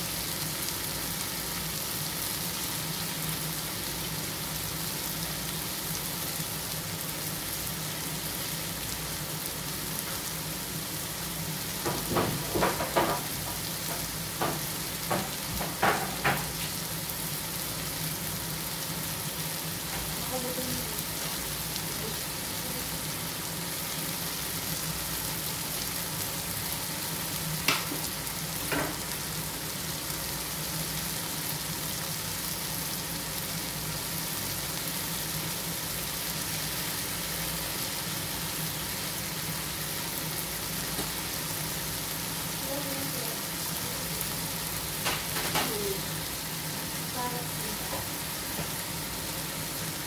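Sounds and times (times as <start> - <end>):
chicken sizzling in oil: 0.0 - 50.0.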